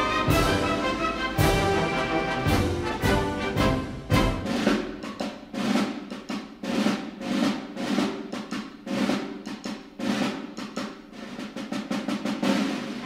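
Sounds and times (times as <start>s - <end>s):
snare drums playing: 0.0s - 13.0s.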